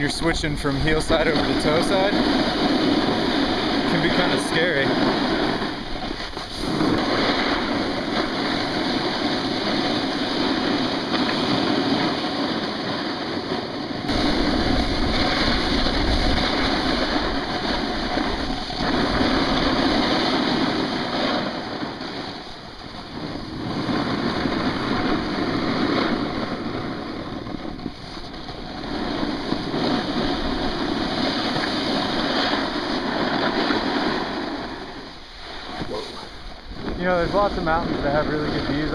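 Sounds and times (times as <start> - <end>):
snowboard scraping packed snow: 0.0 - 38.9
wind on microphone: 0.0 - 38.9.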